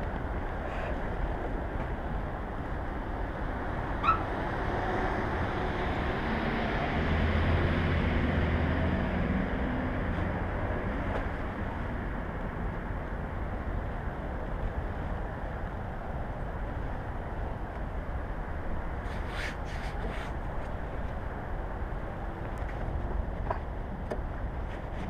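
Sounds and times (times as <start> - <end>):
motorcycle road noise: 0.0 - 25.0.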